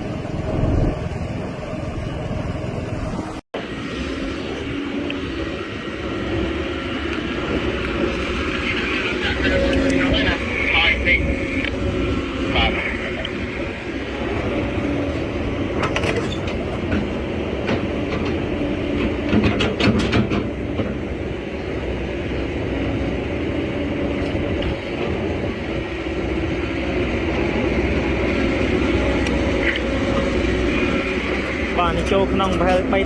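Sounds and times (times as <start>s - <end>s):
diesel engine running steadily: 0.0s - 33.0s.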